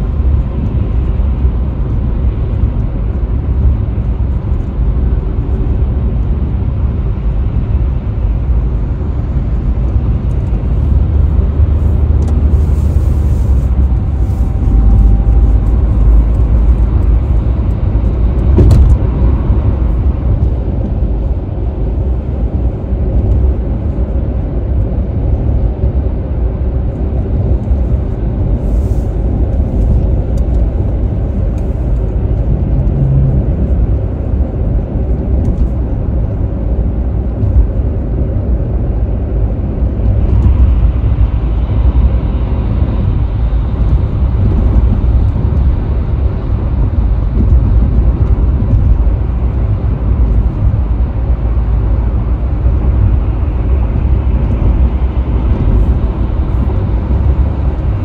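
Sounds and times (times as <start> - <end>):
road and engine rumble in car: 0.0 - 58.0.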